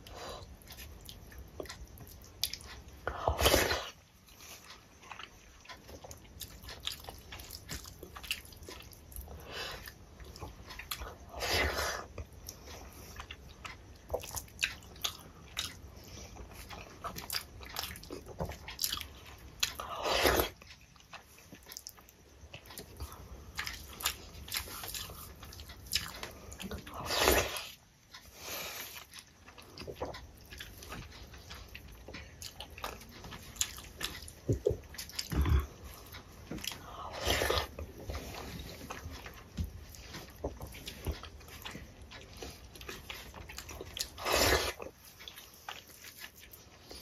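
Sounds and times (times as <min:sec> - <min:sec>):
wet chewing with clicks and smacks: 0:00.0 - 0:47.0.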